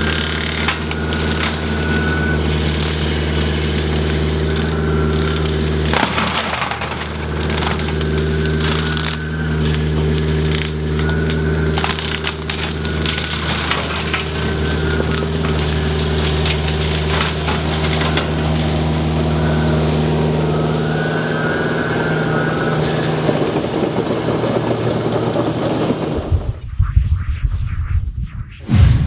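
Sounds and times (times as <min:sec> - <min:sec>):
brush mower cracking and splintering wood: 0:00.0 - 0:26.2
engine and hydraulics drone: 0:00.0 - 0:29.0.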